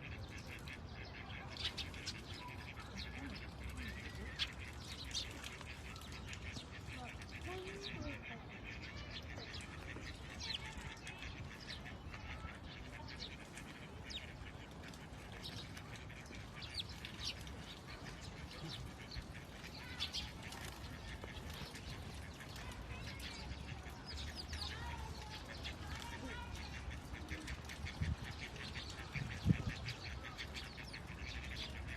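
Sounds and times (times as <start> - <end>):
flock of birds chirping: 0.0 - 31.9
low background noise: 0.0 - 31.9.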